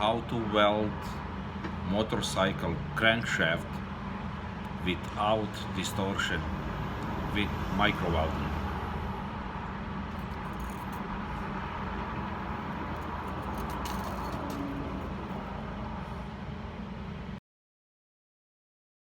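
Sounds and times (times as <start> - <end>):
background hum and hiss: 0.0 - 17.4.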